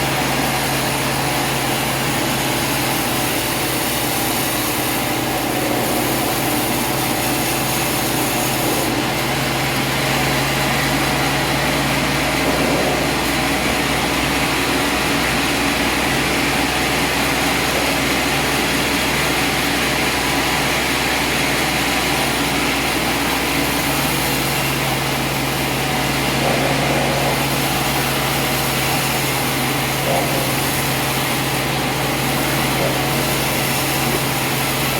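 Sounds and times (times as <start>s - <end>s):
sawmill engine humming: 0.0s - 34.9s.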